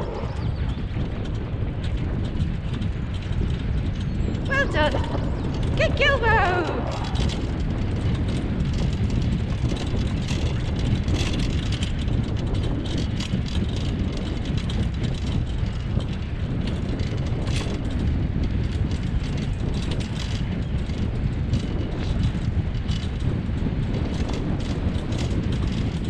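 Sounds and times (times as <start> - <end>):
wheels rolling on dirt track: 0.0 - 26.0.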